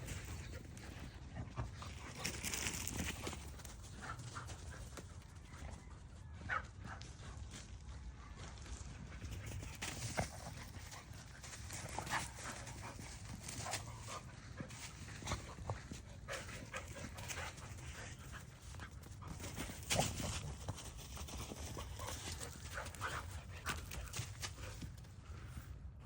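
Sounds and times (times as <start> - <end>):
dogs moving about: 0.0 - 5.8, 9.1 - 25.2.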